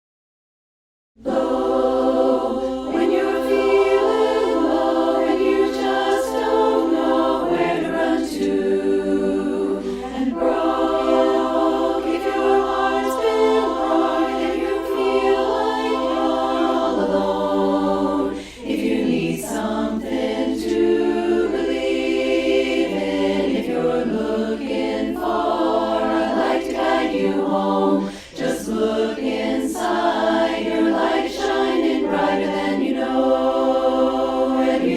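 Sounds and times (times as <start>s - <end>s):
choir singing in harmony: 1.2s - 34.9s.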